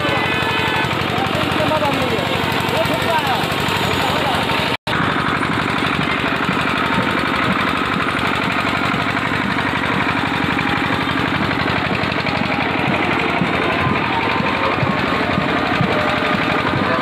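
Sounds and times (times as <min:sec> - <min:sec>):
engine running with rattling beat: 0:00.0 - 0:17.0.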